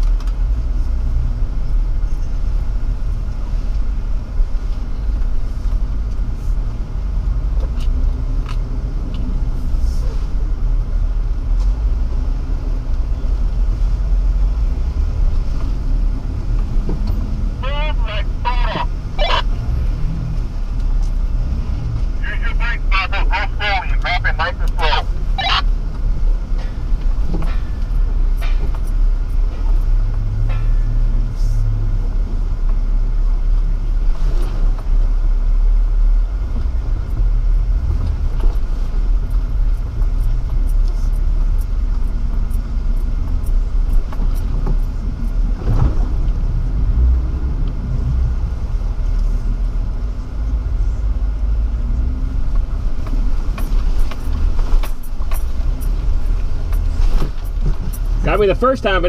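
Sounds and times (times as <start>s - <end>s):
engine rumbling at low revs: 0.0s - 59.0s.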